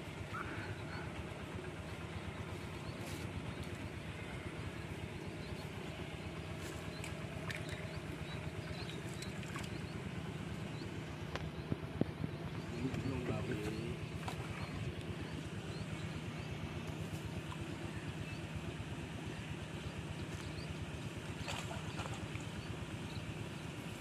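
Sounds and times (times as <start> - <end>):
low motor drone: 0.0 - 24.0.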